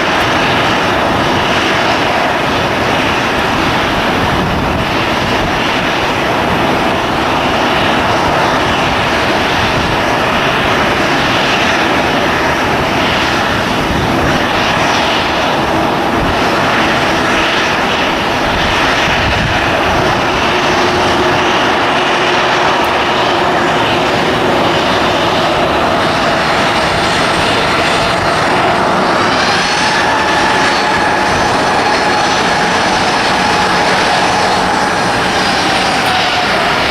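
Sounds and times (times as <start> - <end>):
airliner engines roaring: 0.0 - 36.9
engine whine: 0.0 - 36.9.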